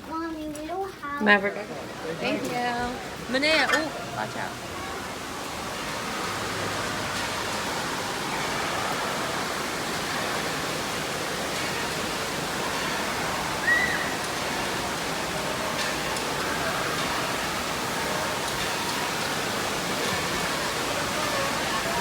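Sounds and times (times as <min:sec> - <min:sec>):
rushing water: 0:00.0 - 0:22.0.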